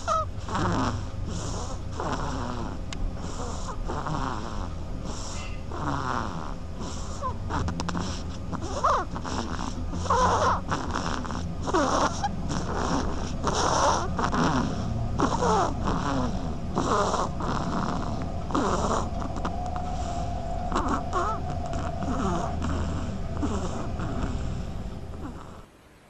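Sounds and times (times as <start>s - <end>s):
duckling snoring: 0.0s - 25.7s.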